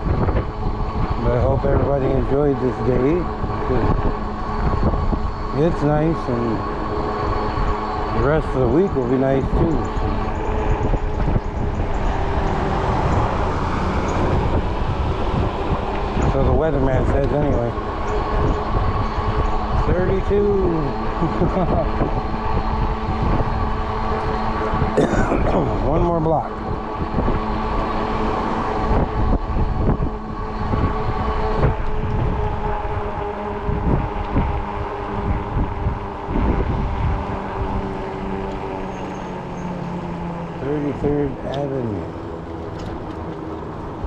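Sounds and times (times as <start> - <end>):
bike road noise: 0.0 - 44.0
electric motor whine: 0.0 - 44.0
wind rushing over microphone: 0.0 - 44.0.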